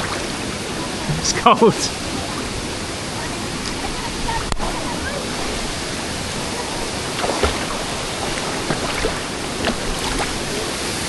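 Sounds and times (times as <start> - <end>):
water splashes: 0.0 - 11.0
waterfall rushing into pool: 0.0 - 11.0.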